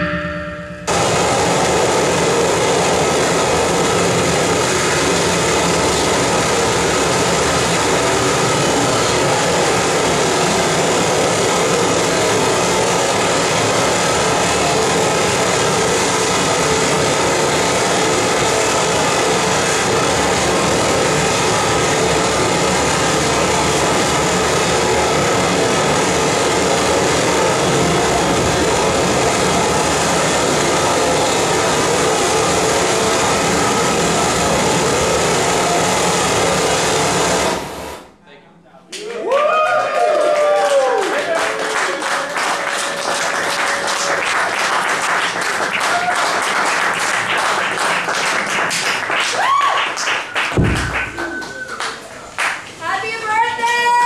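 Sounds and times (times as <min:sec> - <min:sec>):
harsh electronic noise wall: 0:00.0 - 0:38.9, 0:40.0 - 0:54.0.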